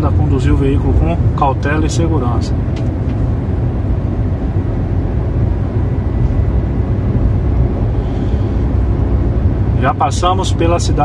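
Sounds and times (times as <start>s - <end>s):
car tyres and engine rumbling: 0.0s - 11.0s.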